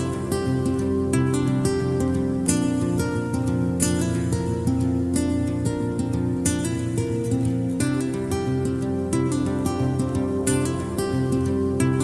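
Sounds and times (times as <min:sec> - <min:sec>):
calm acoustic guitar piece: 0:00.0 - 0:12.0.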